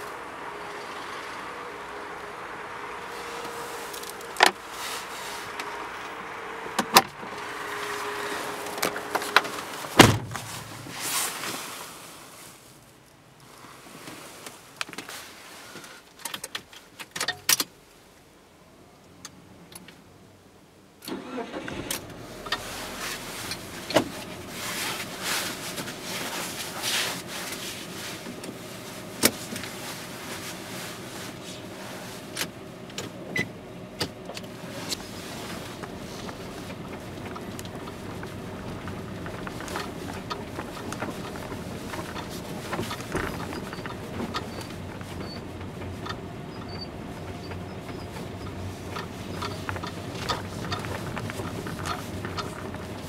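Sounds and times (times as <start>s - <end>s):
car engine running: 0.0s - 11.4s, 21.1s - 53.0s.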